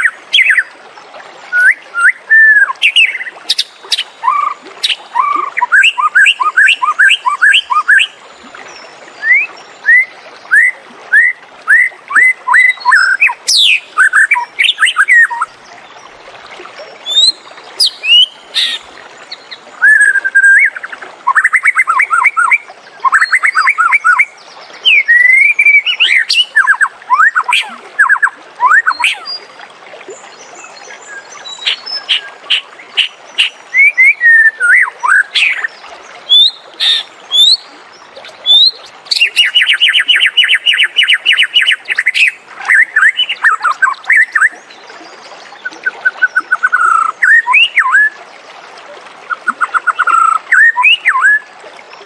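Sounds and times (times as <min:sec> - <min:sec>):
songbird singing trills and whistles: 0:01.5 - 0:08.2, 0:09.2 - 0:15.5, 0:17.0 - 0:29.4, 0:30.9 - 0:35.7, 0:36.3 - 0:44.6, 0:45.5 - 0:48.2, 0:49.3 - 0:51.5.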